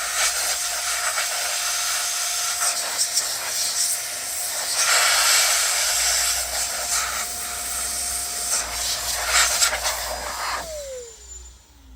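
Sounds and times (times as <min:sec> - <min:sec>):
dust blower whine: 0:00.0 - 0:11.9.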